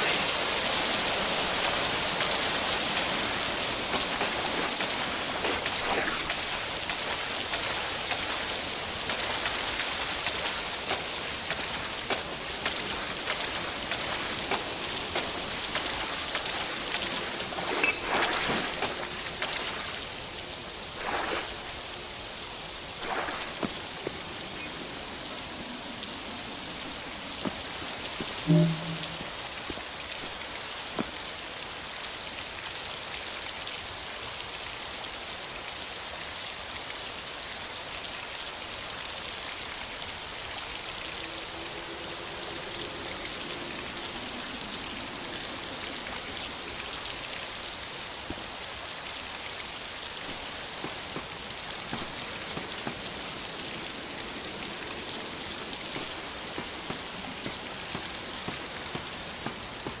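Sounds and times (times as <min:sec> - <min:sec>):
rain hissing: 0:00.0 - 1:00.0.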